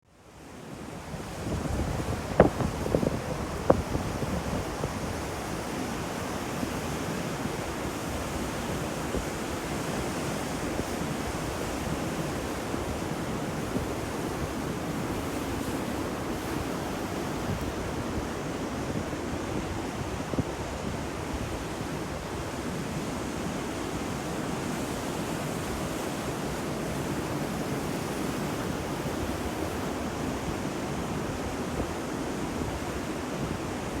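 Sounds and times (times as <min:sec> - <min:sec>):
sea waves breaking on shore: 0:00.3 - 0:34.0
wind over microphone: 0:00.8 - 0:34.0.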